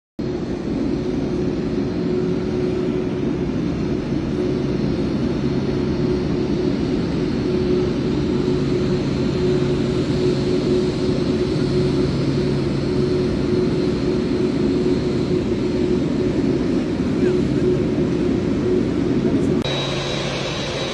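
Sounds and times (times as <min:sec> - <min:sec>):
jet engines running: 0:00.2 - 0:20.9.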